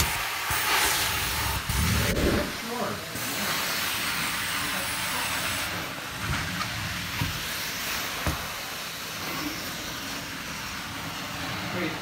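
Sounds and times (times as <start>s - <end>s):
carpet cleaner hissing suction: 0.0s - 12.0s.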